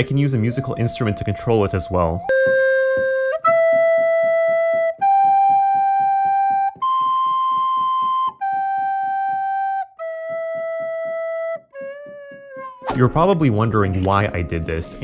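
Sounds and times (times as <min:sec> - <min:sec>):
recorder playing held notes: 0:00.0 - 0:13.0.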